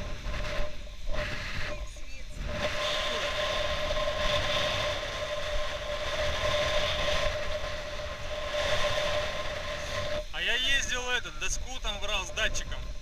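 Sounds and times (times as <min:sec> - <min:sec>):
steady high whine: 0:00.0 - 0:13.0
wind buffeting microphone: 0:00.0 - 0:13.0.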